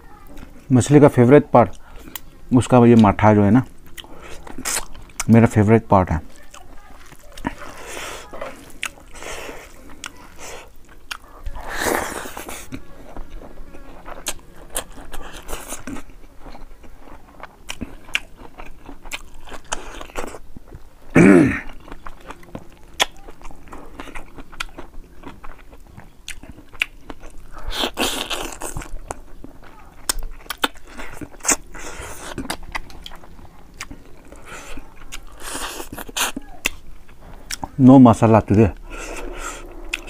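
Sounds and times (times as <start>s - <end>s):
person chewing with mouth clicks: 1.6s - 2.3s, 3.7s - 5.4s, 6.3s - 20.9s, 21.6s - 37.8s, 38.7s - 40.0s.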